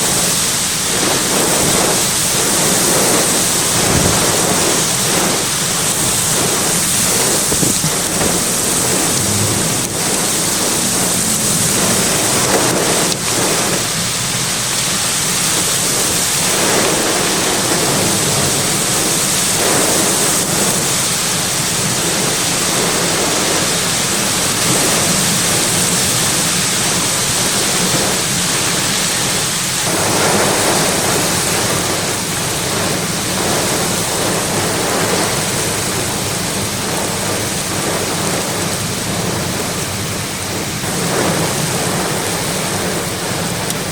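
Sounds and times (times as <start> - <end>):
gusting wind: 0.0 - 43.9
heavy rain: 0.0 - 43.9.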